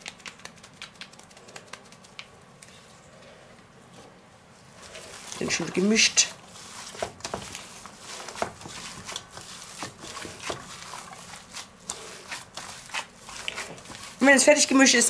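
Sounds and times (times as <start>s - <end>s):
hands kneading minced meat: 0.0s - 2.8s, 4.0s - 15.0s.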